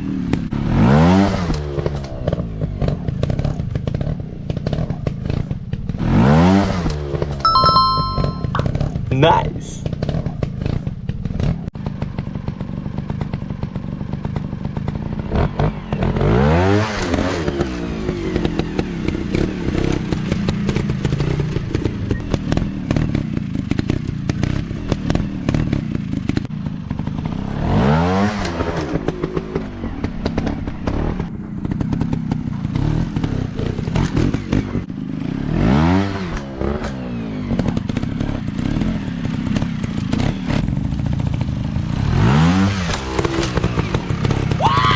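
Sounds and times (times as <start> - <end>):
motorcycle engines revving: 0.0 - 7.3, 9.8 - 44.9.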